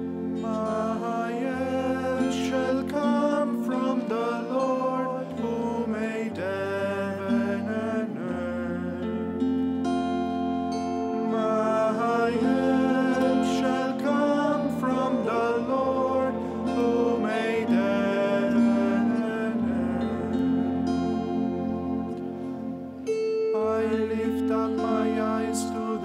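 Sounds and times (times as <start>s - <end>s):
long held melody notes: 0.0s - 26.0s
plucked acoustic guitar: 0.0s - 26.0s.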